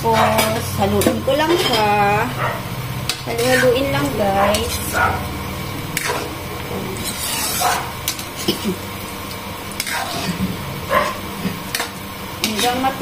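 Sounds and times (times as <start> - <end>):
metal spatula scraping wok: 0.0 - 8.7, 9.7 - 13.0
frying sizzle: 0.0 - 13.0.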